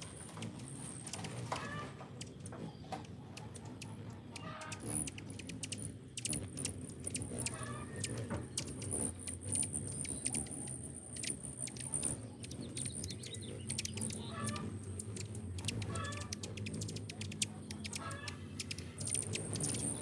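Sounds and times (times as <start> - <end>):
hummingbirds chipping and twittering: 0.0 - 20.0
thin high squeaking: 0.0 - 20.0.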